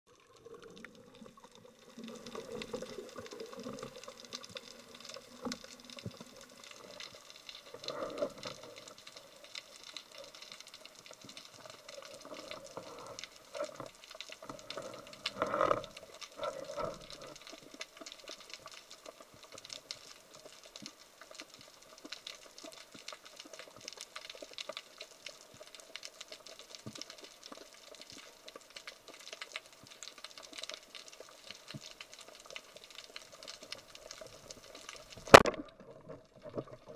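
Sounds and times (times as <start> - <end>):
underwater crackle of tiny clicks: 0.1 - 36.9.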